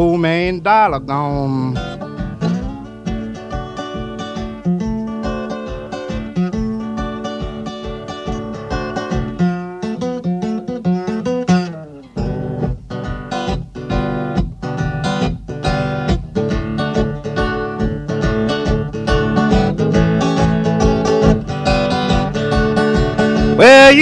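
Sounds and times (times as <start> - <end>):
blues guitar playing: 0.0 - 24.0.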